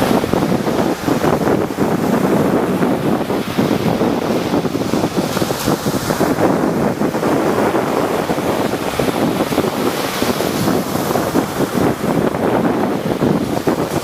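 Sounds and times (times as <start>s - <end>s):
surf breaking and washing: 0.0s - 14.0s
wind buffeting microphone: 0.0s - 14.0s.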